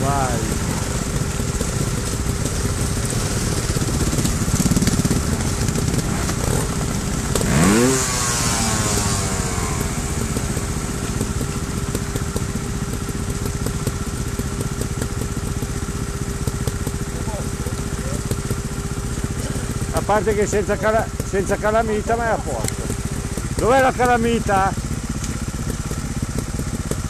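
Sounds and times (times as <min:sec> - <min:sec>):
motorcycle engine revving: 0:00.0 - 0:27.0
motorcycle engines idling: 0:00.0 - 0:27.0.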